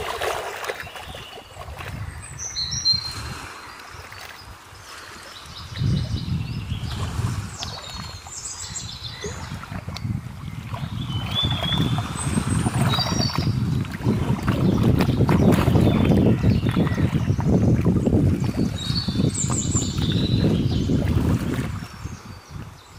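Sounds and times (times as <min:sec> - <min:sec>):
waves lapping against rocks: 0:00.0 - 0:22.8
wind rumble on microphone: 0:00.0 - 0:22.9
birds chirping: 0:00.6 - 0:22.9.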